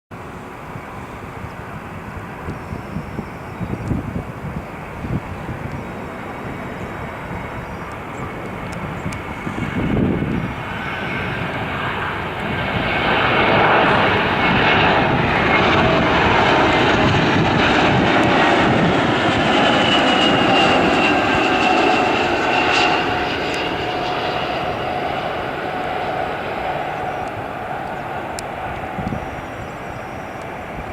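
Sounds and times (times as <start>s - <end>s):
jet airliner passing by: 0.2s - 30.9s.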